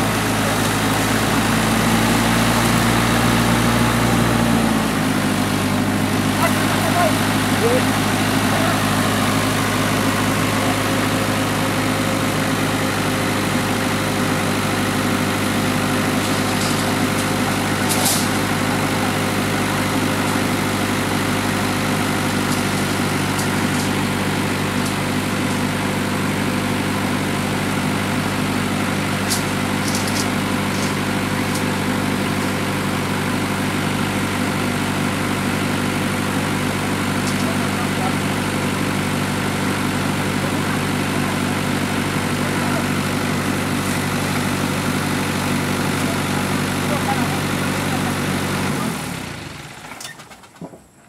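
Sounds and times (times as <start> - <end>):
truck engine idling: 0.0 - 49.8.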